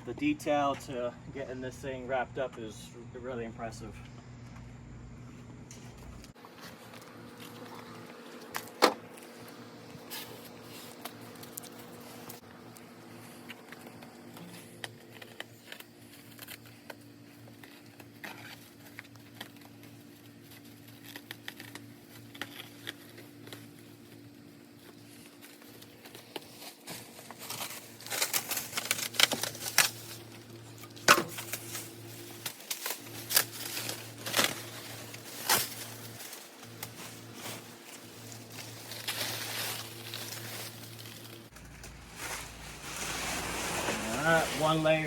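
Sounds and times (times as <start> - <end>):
plastic wrapping crinkling and tearing: 6.3 - 45.0.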